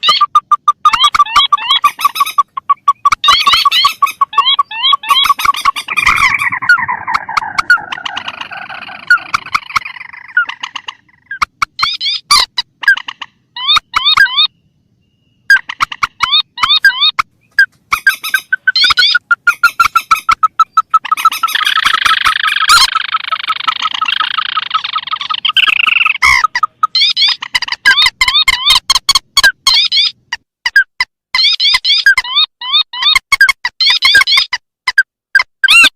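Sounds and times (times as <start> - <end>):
recorded rail and crake calls: 0.0 - 30.8.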